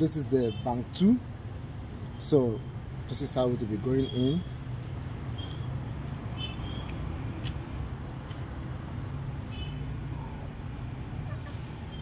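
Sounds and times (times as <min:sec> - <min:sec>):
rumble of vehicles: 0:00.0 - 0:12.0.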